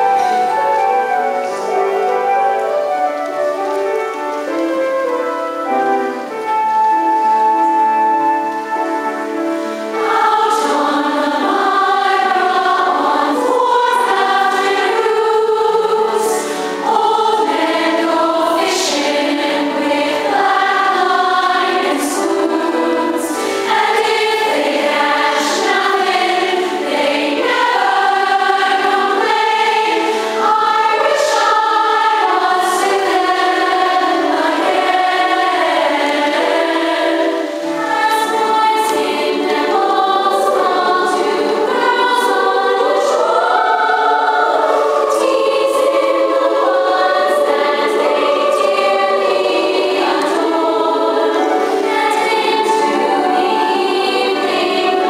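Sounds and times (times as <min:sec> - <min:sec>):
women's choir singing: 0:00.0 - 0:55.0.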